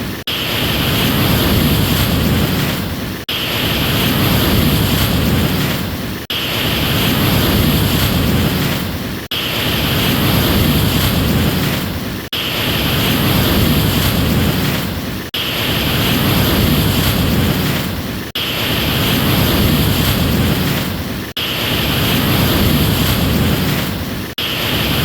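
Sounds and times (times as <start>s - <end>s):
ocean surf waves washing: 0.0s - 25.0s.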